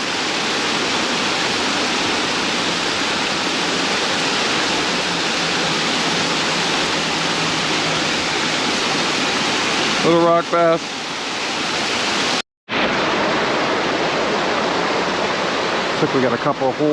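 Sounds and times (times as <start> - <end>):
creek water rushing: 0.0 - 16.9.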